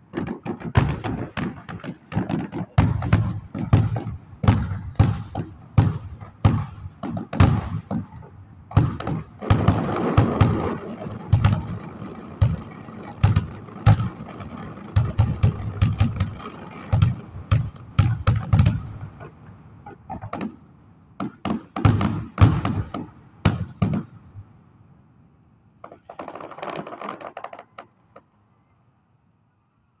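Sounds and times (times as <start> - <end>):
firework crackling: 0.0 - 24.2, 25.9 - 28.0
fireworks bangs: 0.0 - 24.5, 25.8 - 28.4.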